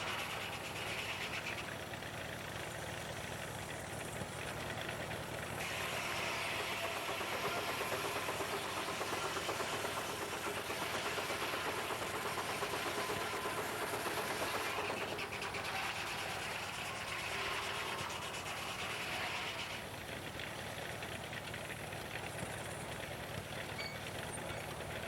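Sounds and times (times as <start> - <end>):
steam-driven sawmill clatter and hum: 0.0 - 25.0.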